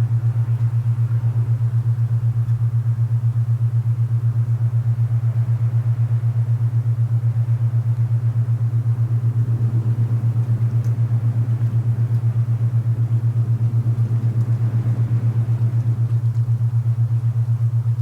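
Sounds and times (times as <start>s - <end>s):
low pulsing binaural tone: 0.0s - 18.0s
soft wind hiss: 0.0s - 18.0s.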